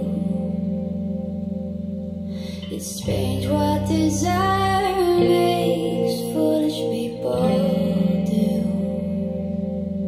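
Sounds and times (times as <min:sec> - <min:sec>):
slow music over loudspeakers: 0:00.0 - 0:10.0.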